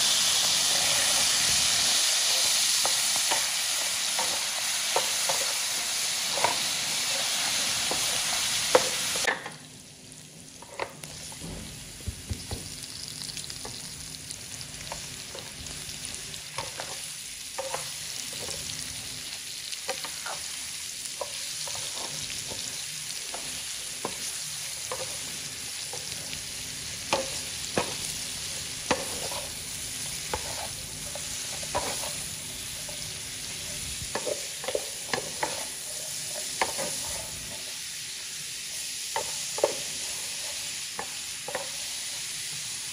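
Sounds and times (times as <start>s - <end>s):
meat sizzling in a wok: 0.0s - 42.9s.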